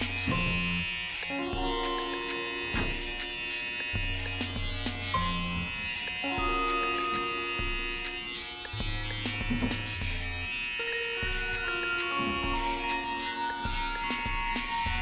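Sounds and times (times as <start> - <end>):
background music with held notes: 0.0 - 15.0
electric hair clippers buzzing: 0.0 - 15.0.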